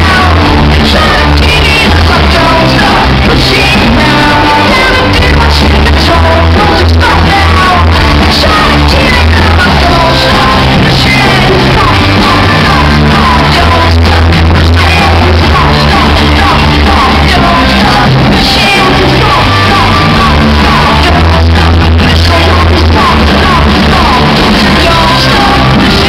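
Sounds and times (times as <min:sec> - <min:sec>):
bass guitar: 0:00.0 - 0:26.0
drums: 0:00.0 - 0:26.0
electric guitar: 0:00.0 - 0:26.0
shouted sung lead vocals: 0:00.0 - 0:26.0.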